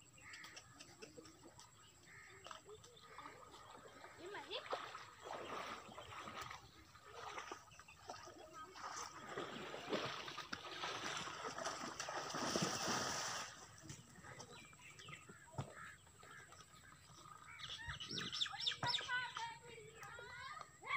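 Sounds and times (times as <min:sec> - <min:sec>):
birds chirping: 0:00.0 - 0:10.5, 0:11.1 - 0:20.9.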